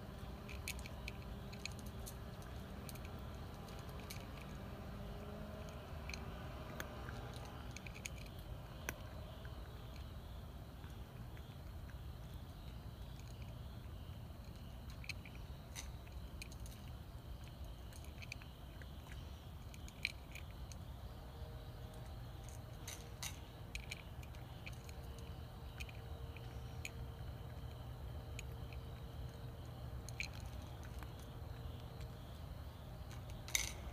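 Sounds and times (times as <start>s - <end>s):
faint hum: 0.0s - 33.9s.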